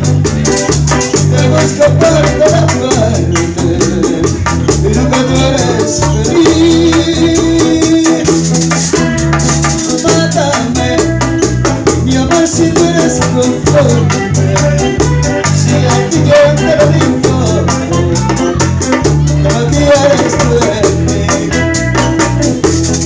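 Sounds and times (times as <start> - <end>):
band playing: 0.0 - 23.0
deep bass: 0.0 - 23.0
guitar melody: 0.0 - 23.0
hand drum: 0.0 - 23.0.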